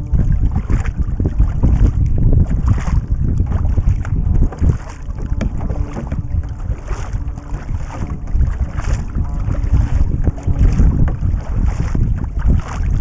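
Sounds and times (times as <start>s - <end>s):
kayak paddle splashing: 0.0s - 13.0s
water along hull: 0.0s - 13.0s
wind buffeting microphone: 0.0s - 13.0s.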